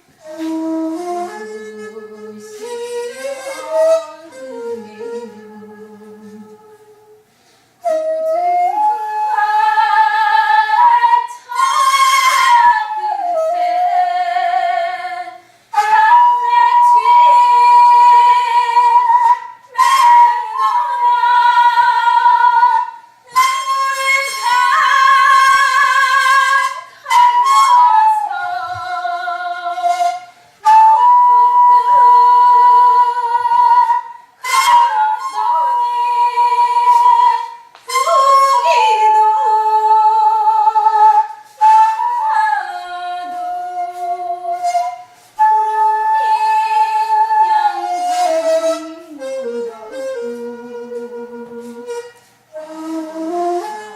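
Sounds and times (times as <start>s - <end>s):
bamboo flute slow melody: 0.0s - 53.9s.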